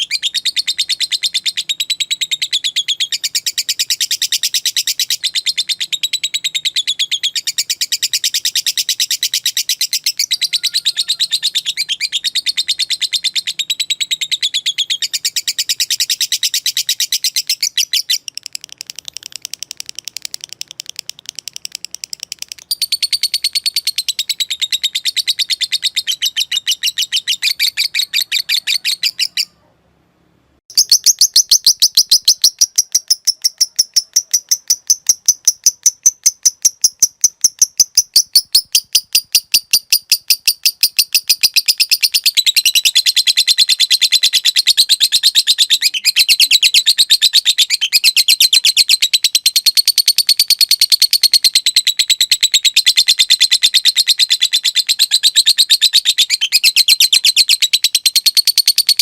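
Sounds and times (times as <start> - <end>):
lovebird chattering trill: 0.0 - 29.6, 30.7 - 59.0.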